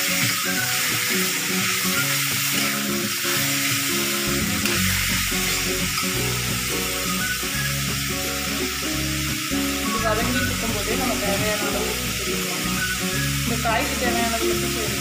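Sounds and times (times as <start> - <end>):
background music: 0.0 - 15.0
vegetables sizzling in hot oil: 0.0 - 15.0.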